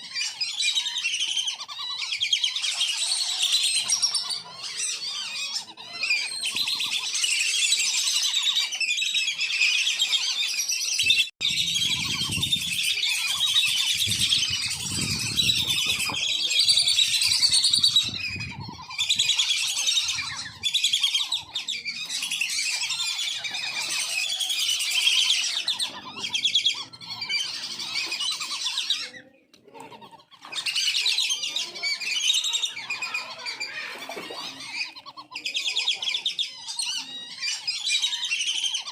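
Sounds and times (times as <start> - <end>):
ducks whistling: 0.0 - 38.9.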